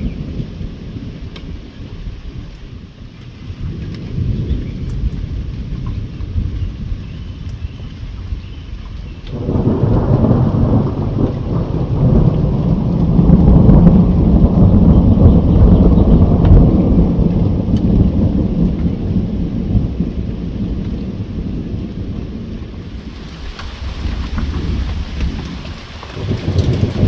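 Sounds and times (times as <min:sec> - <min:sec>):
steady rainfall: 0:00.0 - 0:27.0
thunder rumbling: 0:00.0 - 0:27.0.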